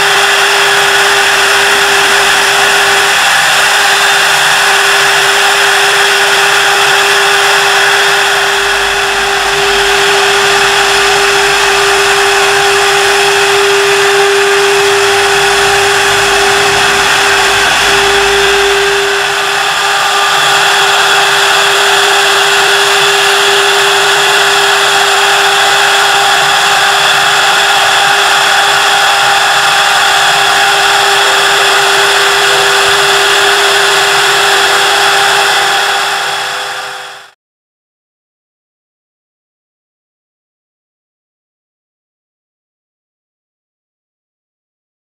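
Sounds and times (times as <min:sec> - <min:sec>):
hiss of wood being cut: 0:00.0 - 0:37.3
lathe spindle whine: 0:00.0 - 0:37.4.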